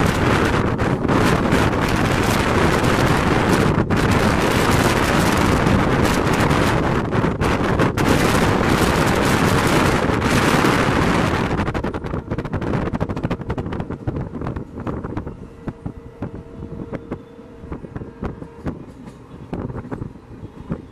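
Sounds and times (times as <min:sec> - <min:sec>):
train wheels rumbling on rail: 0:00.0 - 0:20.9
wind buffeting: 0:00.0 - 0:20.9.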